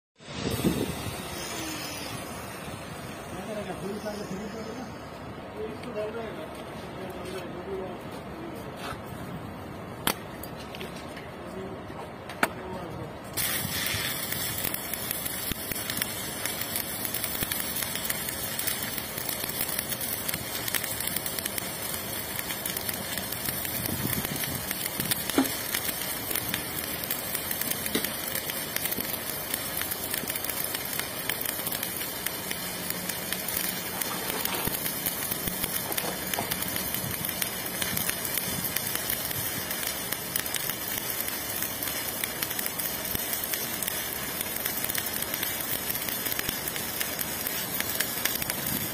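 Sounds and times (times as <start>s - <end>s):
electric arc welding: 0.2s - 4.9s, 13.4s - 48.9s.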